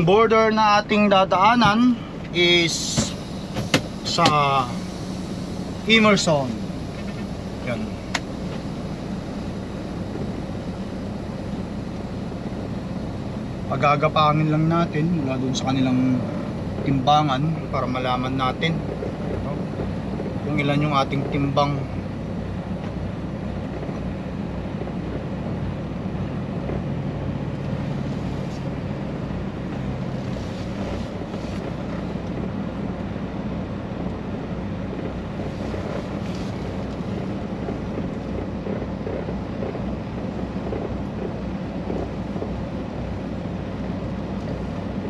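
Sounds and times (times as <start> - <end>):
truck diesel engine droning: 0.0 - 45.0.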